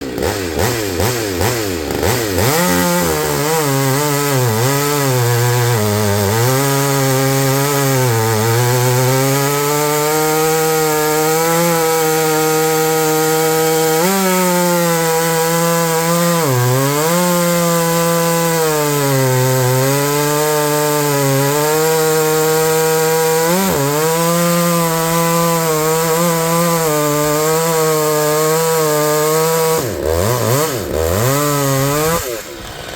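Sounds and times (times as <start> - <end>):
chainsaw cutting wood: 0.0 - 32.9.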